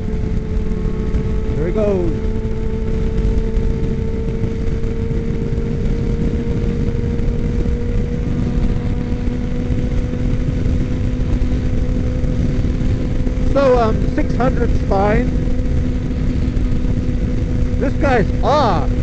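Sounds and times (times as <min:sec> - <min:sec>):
motorcycle engine cruising: 0:00.0 - 0:19.0
wind rush on microphone: 0:00.0 - 0:19.0.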